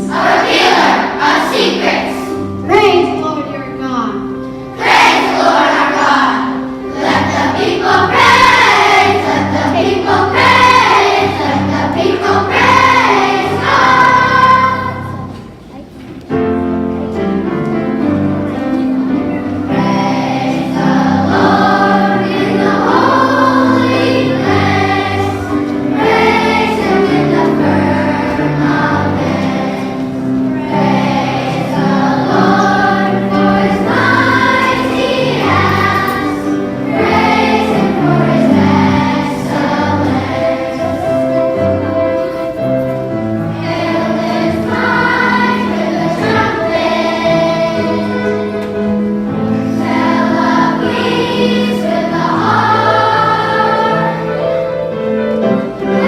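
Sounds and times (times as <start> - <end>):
children's choir singing: 0.0 - 2.7, 4.2 - 56.0.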